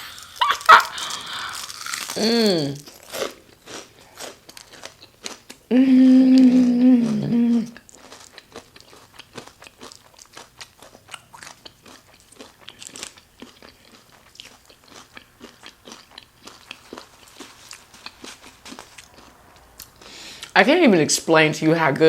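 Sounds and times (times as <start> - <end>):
chewing crispy onion rings: 0.0 - 5.7, 6.3 - 20.6.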